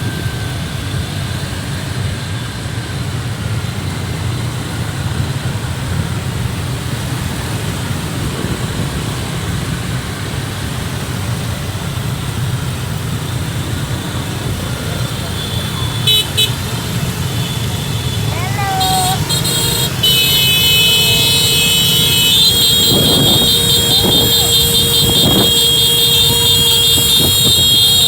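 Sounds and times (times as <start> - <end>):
vehicle engines and road noise: 0.0 - 28.0.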